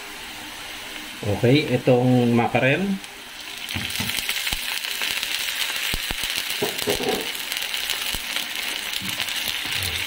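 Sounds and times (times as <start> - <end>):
hot oil sizzling and crackling: 0.0 - 10.0.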